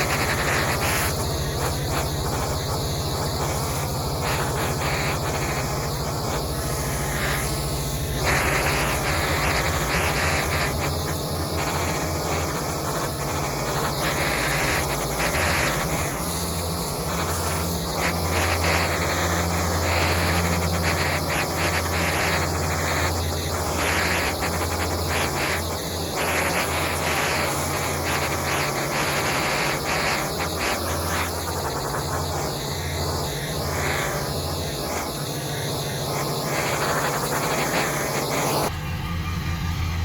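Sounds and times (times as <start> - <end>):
pressure washer engine running: 0.0 - 38.7
water jet spraying on concrete: 0.0 - 38.7.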